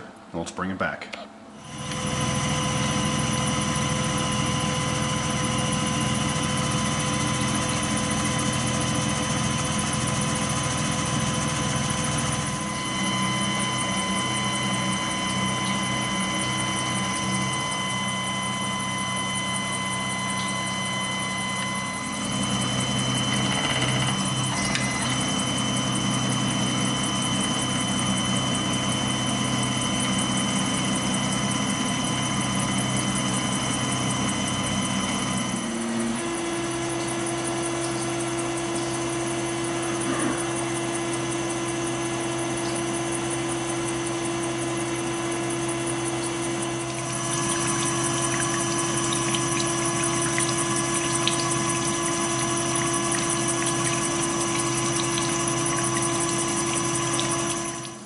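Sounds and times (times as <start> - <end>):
milling machine hum: 1.4 - 58.0.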